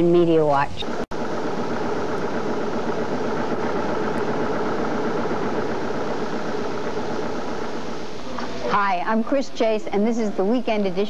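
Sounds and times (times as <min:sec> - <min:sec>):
steady droning hiss: 0:00.0 - 0:11.0.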